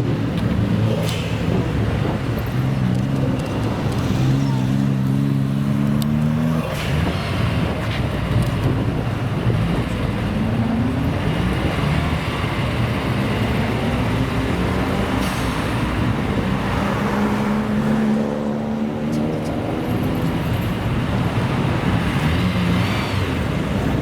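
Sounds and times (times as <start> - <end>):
car engine accelerating: 0.1 - 24.0.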